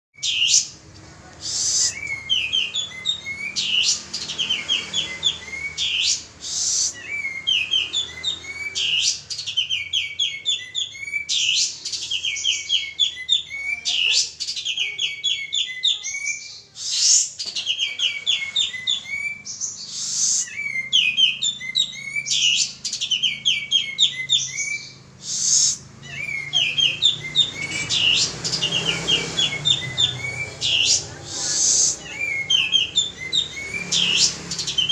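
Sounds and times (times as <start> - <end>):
songbird trilling: 0.2 - 0.8, 1.4 - 34.9
harsh bird call burst: 1.4 - 34.9.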